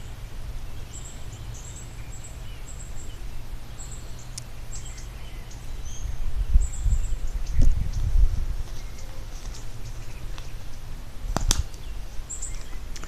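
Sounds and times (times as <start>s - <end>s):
songbirds high thin calls: 0.0s - 13.0s
steady low rumble: 0.0s - 13.0s.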